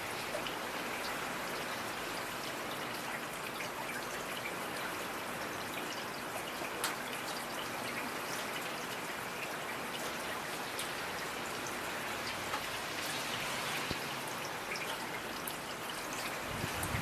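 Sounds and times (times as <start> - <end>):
raindrops ticking on a surface: 0.0 - 17.0
steady rain falling: 0.0 - 17.0.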